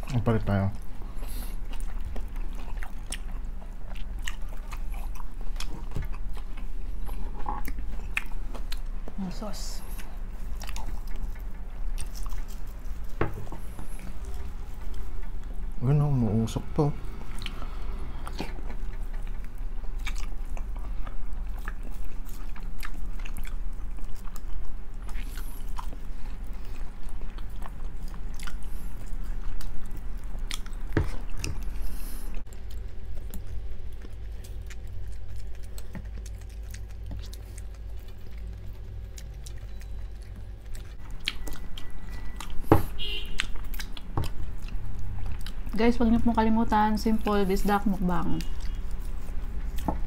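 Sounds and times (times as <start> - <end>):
chewing and biting: 0.0 - 16.4, 17.1 - 50.0
low hum: 0.0 - 50.0.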